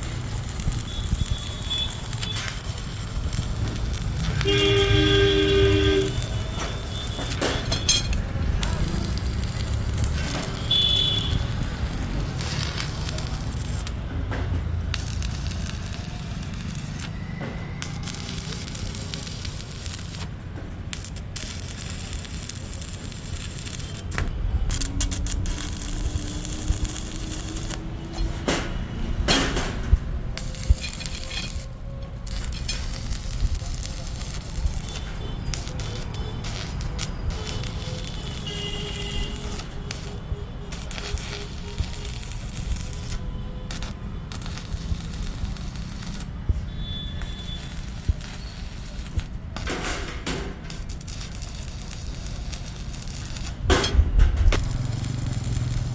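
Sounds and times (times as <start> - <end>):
arc welding crackling sizzle: 0.0 - 55.9.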